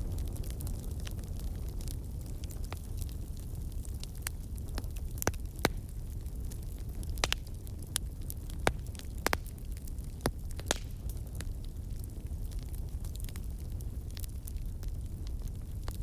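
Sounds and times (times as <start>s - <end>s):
low rumble of flames: 0.0s - 16.0s
wood crackling and popping: 0.0s - 16.0s.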